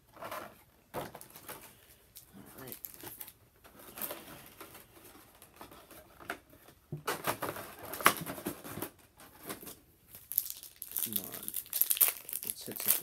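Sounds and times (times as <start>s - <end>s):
plastic packaging crinkling: 0.2s - 6.4s, 7.1s - 13.0s.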